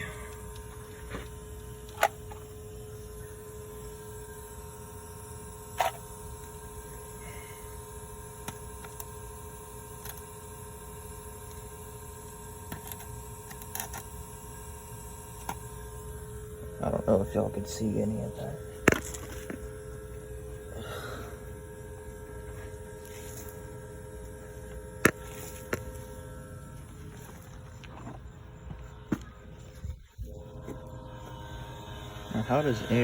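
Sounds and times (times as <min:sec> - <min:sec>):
smoke machine humming: 0:00.0 - 0:33.0.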